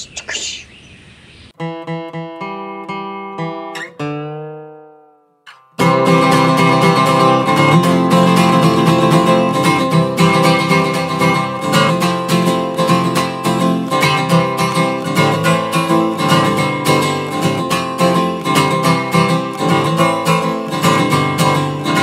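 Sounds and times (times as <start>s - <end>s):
plucked guitar notes: 1.6s - 22.0s
strummed acoustic guitar: 1.6s - 22.0s.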